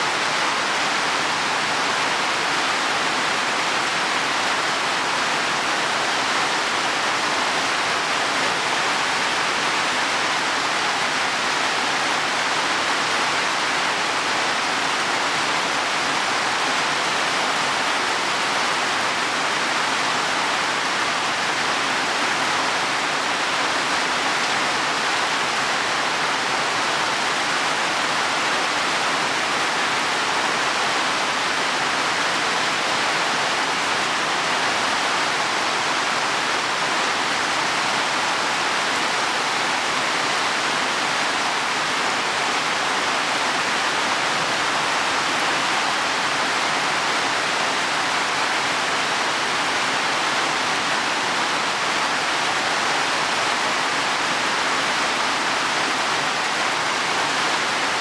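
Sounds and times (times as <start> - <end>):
heavy rain on leaves and soil: 0.0 - 58.0.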